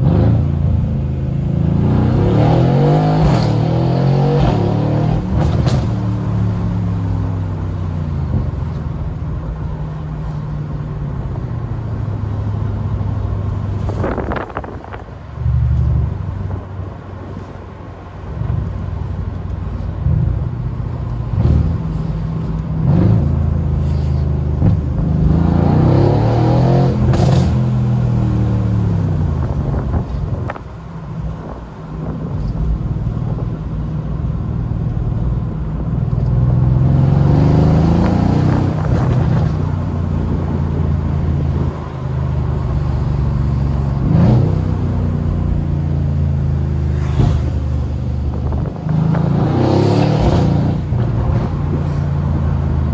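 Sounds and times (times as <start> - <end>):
car engine and exhaust accelerating: 0.0 - 52.9.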